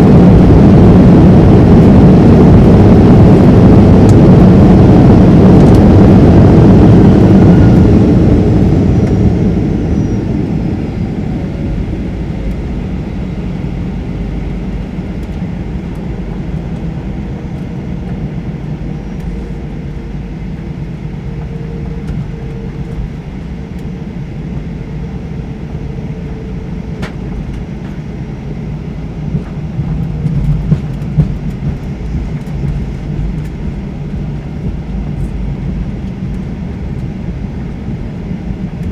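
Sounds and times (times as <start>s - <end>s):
jet engines roaring: 0.0s - 38.9s
low rumble of engines and wheels: 0.0s - 38.9s.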